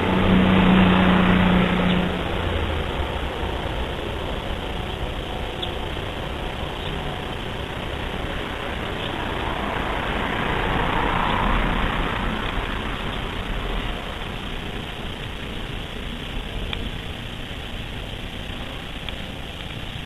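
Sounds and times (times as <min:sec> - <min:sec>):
camp stove flame rushing: 0:00.0 - 0:20.0.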